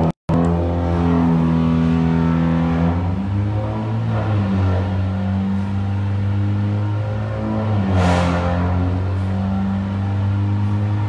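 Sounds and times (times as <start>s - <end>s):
car engine running under load: 0.0s - 11.0s.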